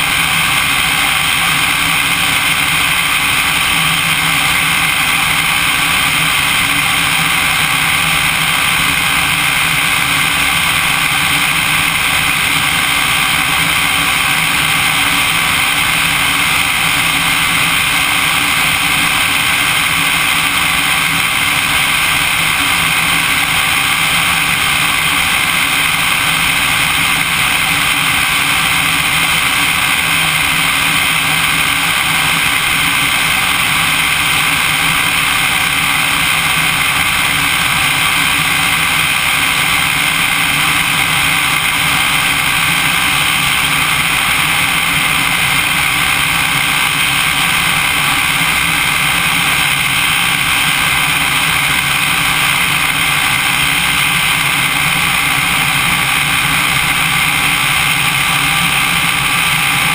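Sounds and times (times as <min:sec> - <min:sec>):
propeller aircraft engine in flight: 0:00.0 - 0:59.9.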